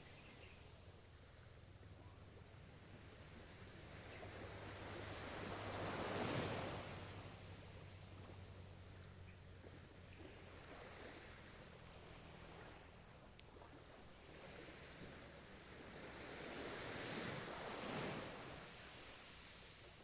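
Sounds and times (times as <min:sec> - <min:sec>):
ocean waves washing onto shore: 0:02.4 - 0:20.0.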